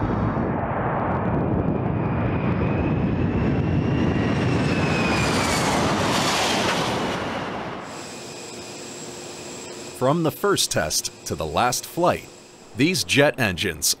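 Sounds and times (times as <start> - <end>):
jet aircraft engines roaring: 0.0 - 14.0
jet engine whine: 0.0 - 14.0.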